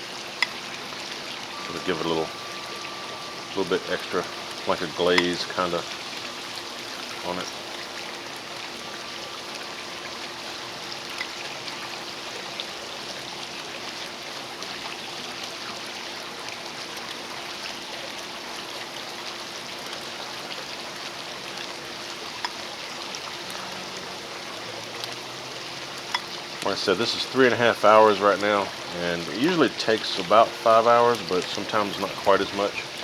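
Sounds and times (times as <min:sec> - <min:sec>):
liquid sizzling on hot meat: 0:00.0 - 0:33.0.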